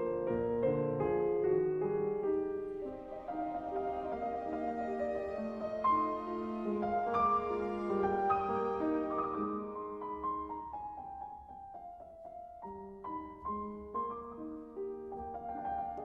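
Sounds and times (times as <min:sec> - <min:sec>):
piano notes: 0:00.0 - 0:16.0.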